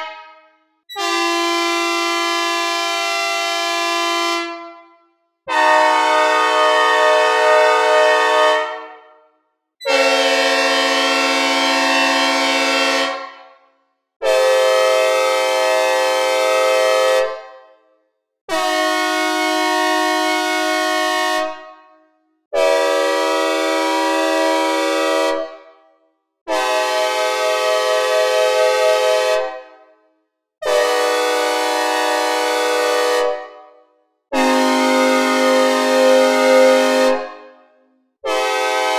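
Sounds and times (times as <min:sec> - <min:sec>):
synthesized locomotive air horn chords: 0:00.0 - 0:13.4, 0:14.2 - 0:17.6, 0:18.5 - 0:21.8, 0:22.6 - 0:25.6, 0:26.5 - 0:29.9, 0:30.6 - 0:33.6, 0:34.3 - 0:37.6, 0:38.2 - 0:38.9.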